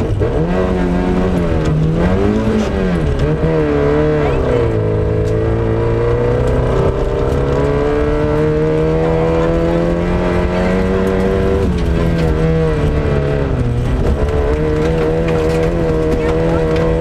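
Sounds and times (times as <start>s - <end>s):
rally car engine under load: 0.0s - 17.0s.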